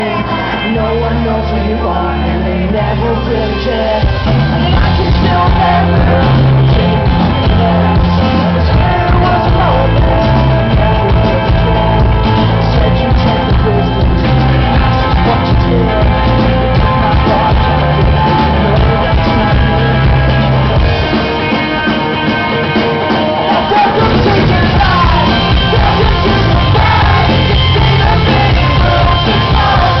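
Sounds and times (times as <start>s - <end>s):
person singing: 0.0s - 30.0s
rock band playing live: 0.0s - 30.0s.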